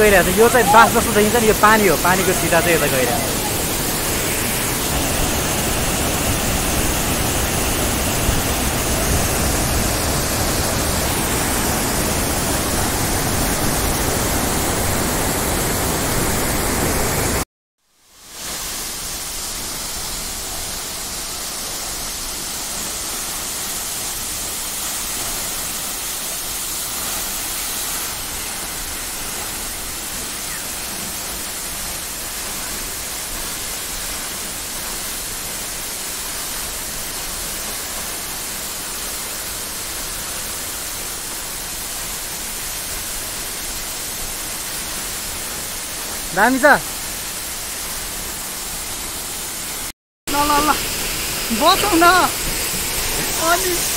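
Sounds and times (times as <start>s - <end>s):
waterfall crashing onto rocks: 0.0s - 17.4s, 18.2s - 53.9s.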